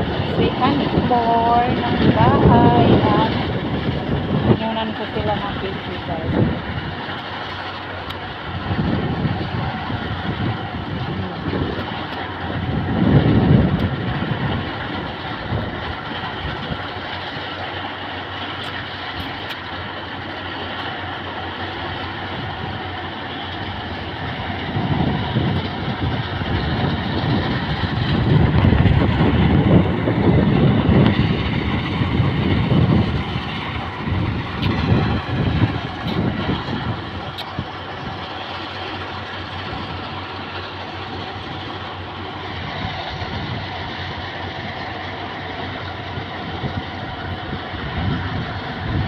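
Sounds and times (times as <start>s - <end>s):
combine harvester running: 0.0s - 49.0s
low rumble: 0.0s - 49.0s.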